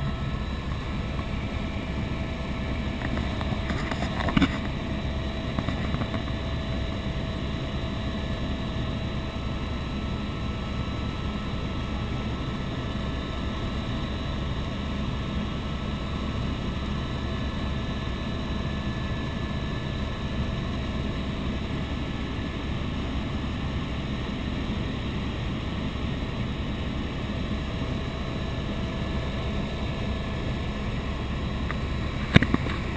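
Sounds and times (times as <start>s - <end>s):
faint whine tones: 0.0s - 32.9s
helicopter engine and rotor drone: 0.0s - 32.9s.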